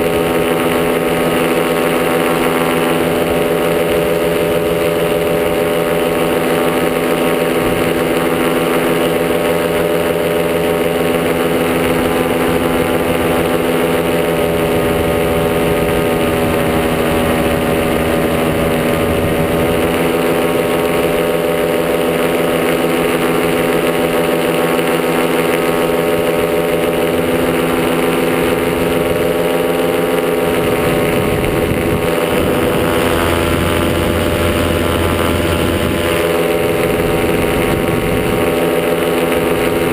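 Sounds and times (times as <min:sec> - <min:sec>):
wind noise: 0:00.0 - 0:24.3, 0:25.4 - 0:39.9
paramotor engine running: 0:00.0 - 0:39.9.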